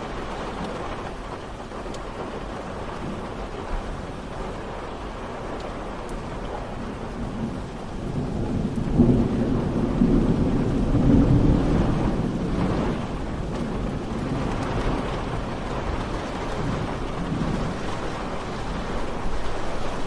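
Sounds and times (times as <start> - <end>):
steady rainfall: 0.0 - 20.0
thunder rumbling: 0.0 - 20.0.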